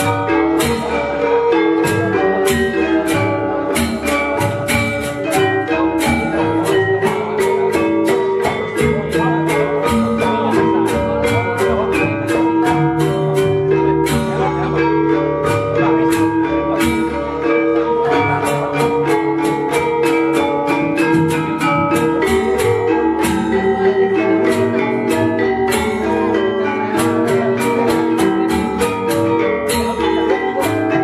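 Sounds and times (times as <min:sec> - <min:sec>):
metallophones struck with mallets: 0:00.0 - 0:31.0.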